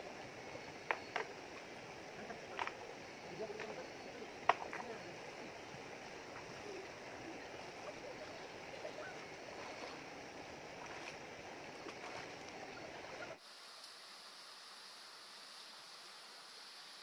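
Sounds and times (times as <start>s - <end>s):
river running over rocks: 0.0s - 16.6s.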